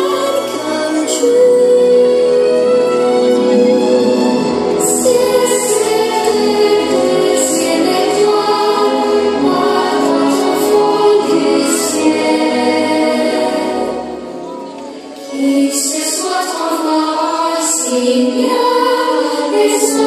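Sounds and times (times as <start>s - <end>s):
choir singing long notes: 0.0s - 20.0s.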